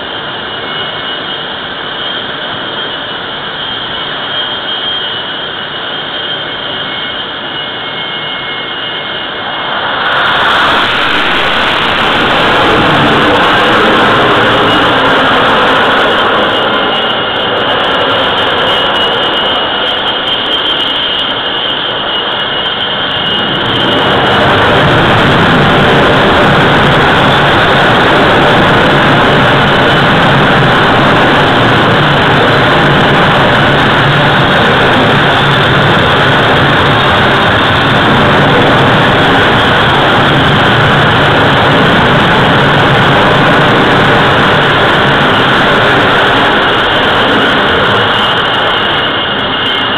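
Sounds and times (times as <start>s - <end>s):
jet engine roaring with whine: 0.0s - 49.9s.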